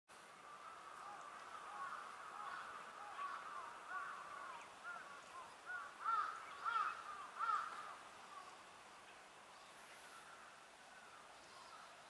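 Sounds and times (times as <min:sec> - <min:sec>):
birds calling: 0:00.4 - 0:12.0.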